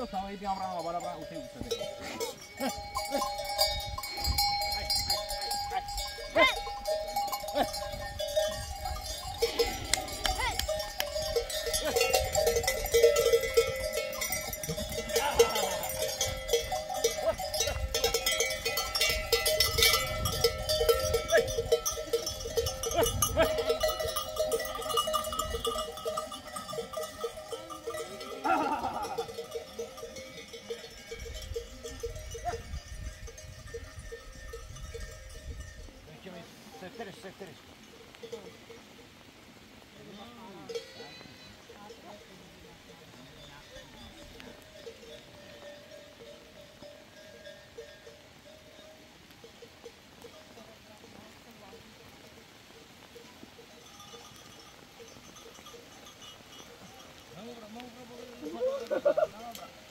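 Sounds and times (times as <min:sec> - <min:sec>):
livestock bells clanking: 0:00.0 - 0:39.0, 0:40.0 - 0:59.9.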